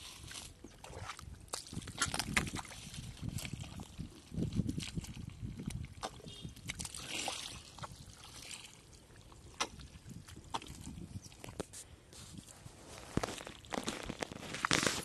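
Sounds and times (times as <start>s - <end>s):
feet squelching through mud: 0.0s - 15.0s.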